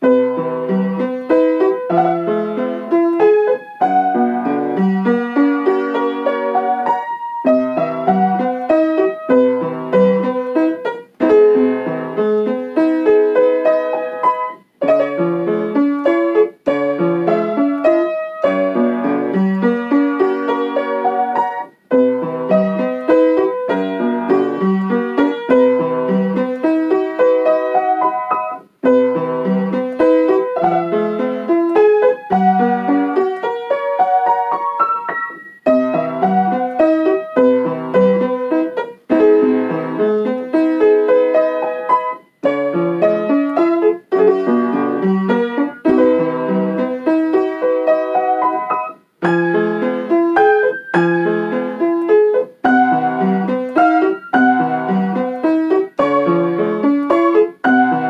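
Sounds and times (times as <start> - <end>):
piano melody with chords: 0.0 - 58.0.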